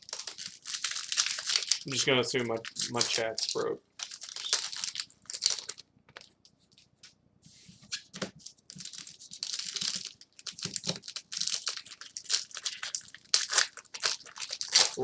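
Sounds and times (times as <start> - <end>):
wrappers crinkling and tearing: 0.0 - 6.3, 8.7 - 15.0.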